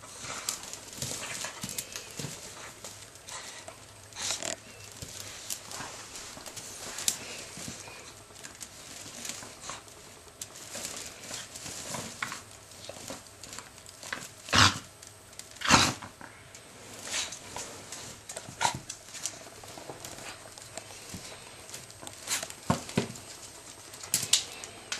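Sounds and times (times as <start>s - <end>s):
dogs rustling in wicker basket: 0.0s - 24.9s.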